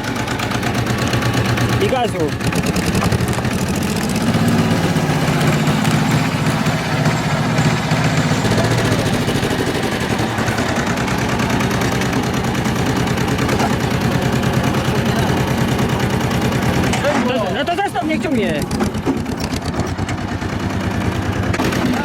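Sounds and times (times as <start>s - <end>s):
engine running with knocking beat: 0.0s - 22.0s.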